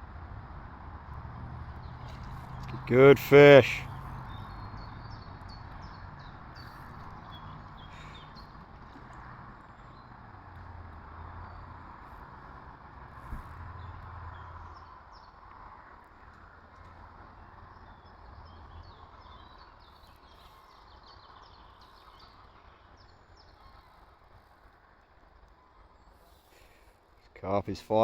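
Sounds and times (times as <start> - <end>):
low outdoor rumble: 0.0 - 28.0
small birds chirping: 1.7 - 27.9.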